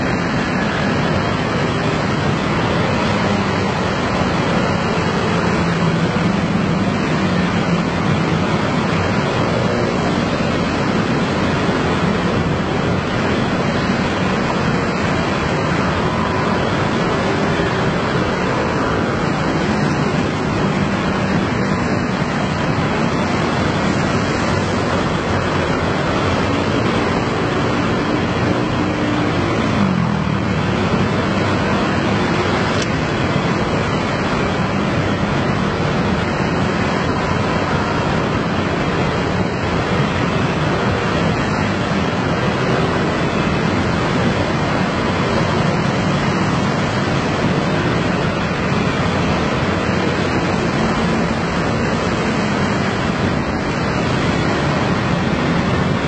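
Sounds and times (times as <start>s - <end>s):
many scooter engines running: 0.0s - 56.0s.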